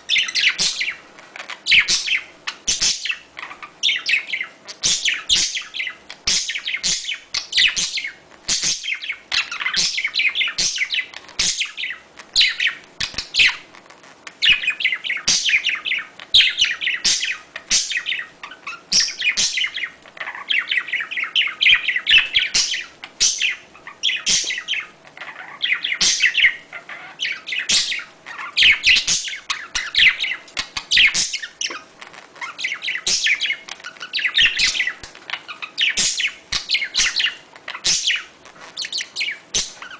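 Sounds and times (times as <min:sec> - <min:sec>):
budgerigars chattering: 0:00.1 - 0:13.7, 0:14.4 - 0:39.9.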